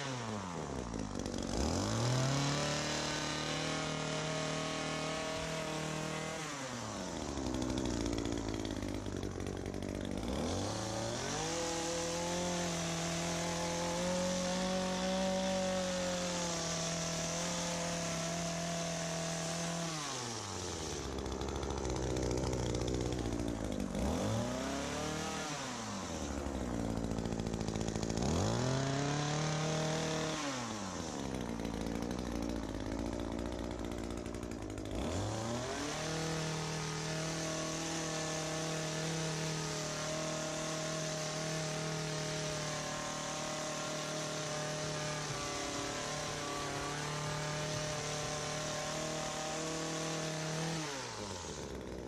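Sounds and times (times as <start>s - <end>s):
hedge trimmer engine revving: 0.0s - 52.0s.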